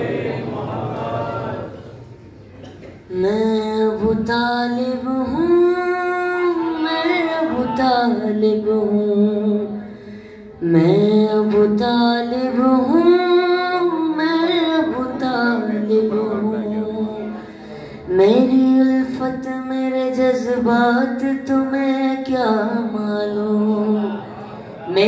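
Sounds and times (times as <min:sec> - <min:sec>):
boy singing into a microphone: 0:03.1 - 0:25.0.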